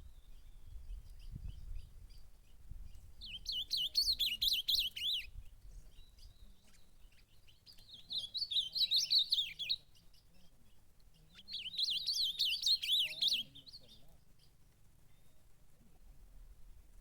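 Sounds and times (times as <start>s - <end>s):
bird warbling song: 0.0s - 15.4s.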